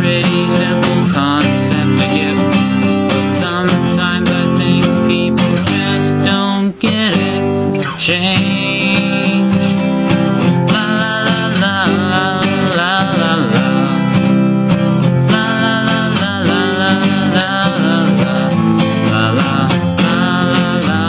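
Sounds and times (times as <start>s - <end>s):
man singing: 0.0s - 21.0s
strummed acoustic guitar: 0.0s - 21.0s.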